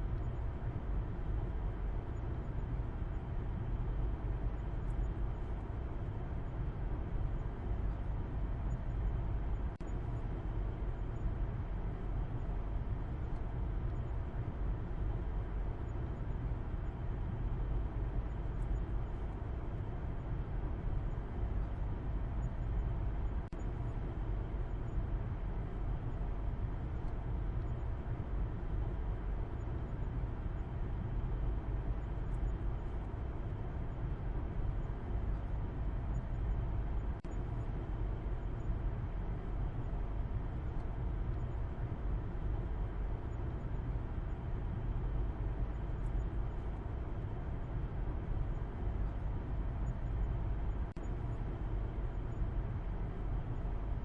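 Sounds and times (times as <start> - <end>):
faint steady tonal hum: 0.0 - 54.0.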